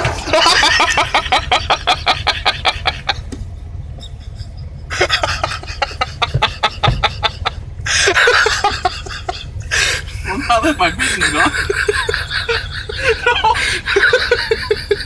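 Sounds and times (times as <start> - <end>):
person laughing hard: 0.1 - 3.3, 4.0 - 15.0.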